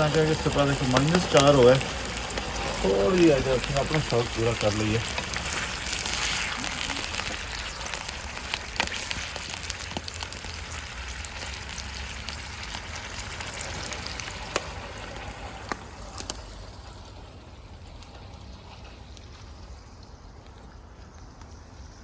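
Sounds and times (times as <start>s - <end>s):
chicken frying in hot oil: 0.0s - 22.0s.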